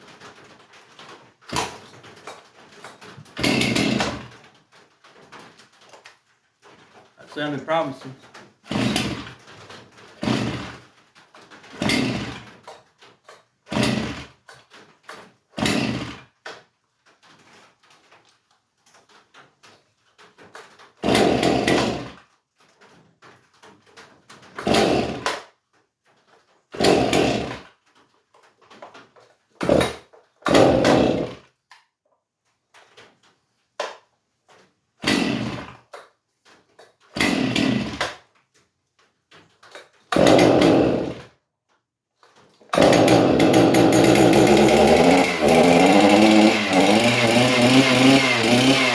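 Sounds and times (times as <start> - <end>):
chainsaw being pull-started: 0.1 - 18.2, 18.9 - 22.8, 23.9 - 25.5, 26.2 - 31.6, 33.8 - 38.4, 39.3 - 41.4, 42.2 - 48.9.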